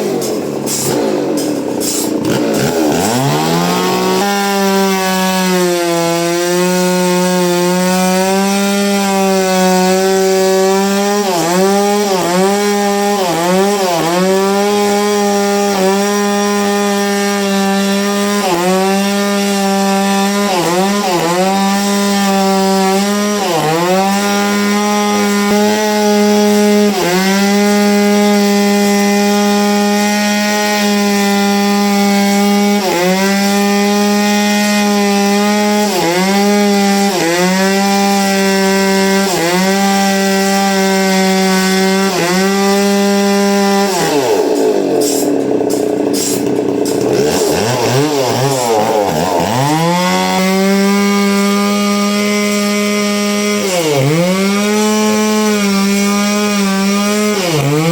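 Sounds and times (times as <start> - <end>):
power saw cutting wood: 0.0 - 57.9.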